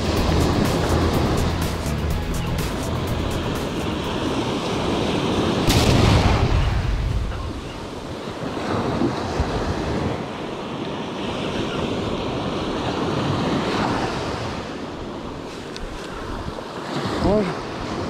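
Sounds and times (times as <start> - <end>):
surf breaking on beach: 0.0 - 1.8, 2.7 - 18.0.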